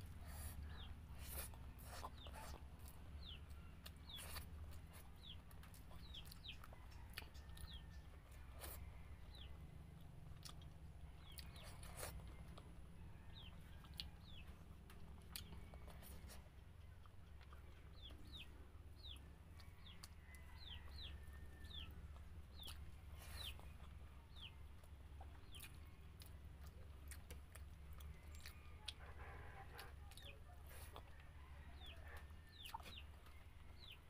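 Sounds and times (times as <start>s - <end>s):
low steady hum: 0.0s - 34.0s
soft clicks of chewing or utensils: 0.0s - 34.0s
chickens peeping: 0.1s - 34.0s.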